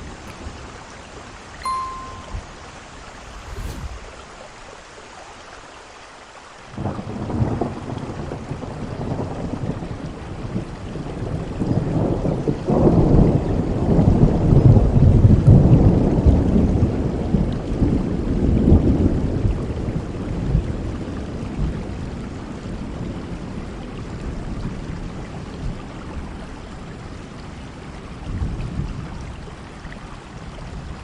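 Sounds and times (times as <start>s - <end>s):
steady rain: 4.1s - 31.0s.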